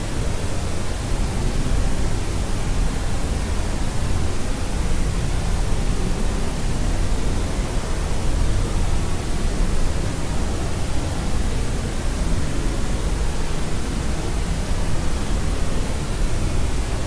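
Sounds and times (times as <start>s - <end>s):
steady pink noise: 0.0s - 17.0s.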